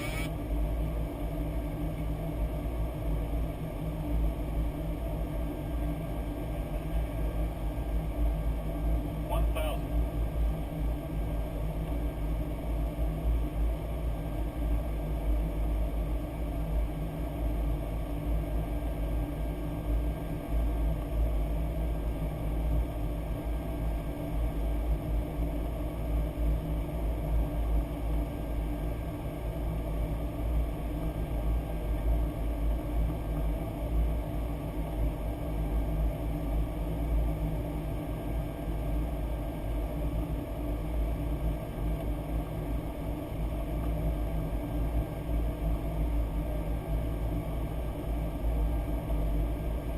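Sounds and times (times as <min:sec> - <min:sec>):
jet engine and airflow rumble: 0:00.0 - 0:49.9.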